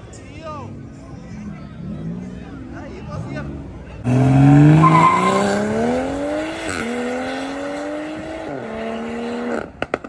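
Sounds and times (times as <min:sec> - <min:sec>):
car engine accelerating: 0:00.8 - 0:10.0.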